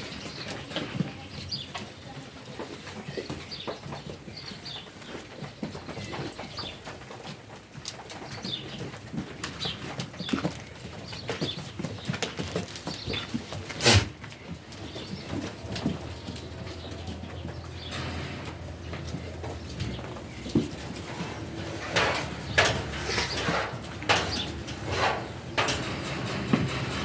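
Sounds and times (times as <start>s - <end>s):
sheep knocking and shuffling: 0.0s - 27.0s.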